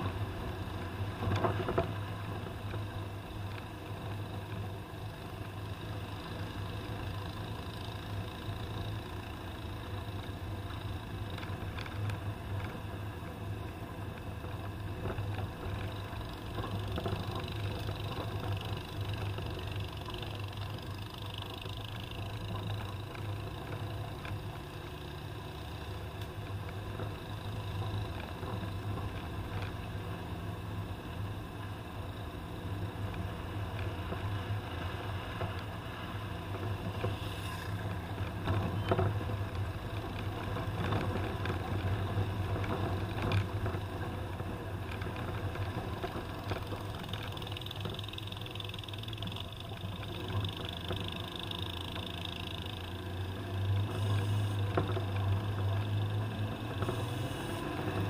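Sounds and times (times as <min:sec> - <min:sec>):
car engine humming: 0:00.0 - 0:58.0
road and body noise: 0:00.0 - 0:58.0.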